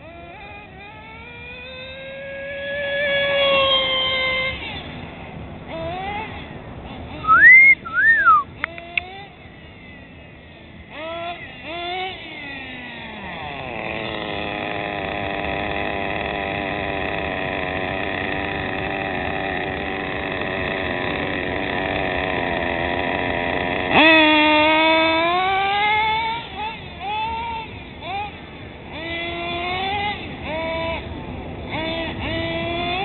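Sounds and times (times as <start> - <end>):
nitro engine revving: 0.0 - 9.8, 10.8 - 33.0.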